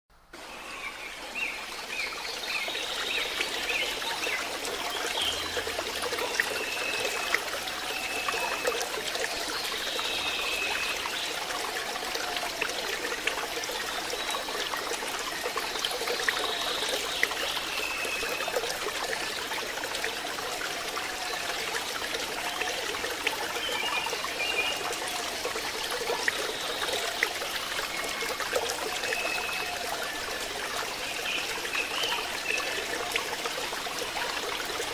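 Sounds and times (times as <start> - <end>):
water trickling and dripping: 0.4 - 34.9.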